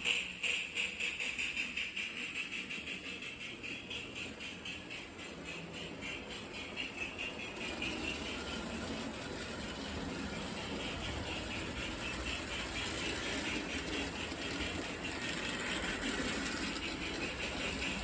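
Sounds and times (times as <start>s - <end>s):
toy train motor hum: 0.0s - 18.0s
wheels clattering on rails: 0.0s - 18.0s.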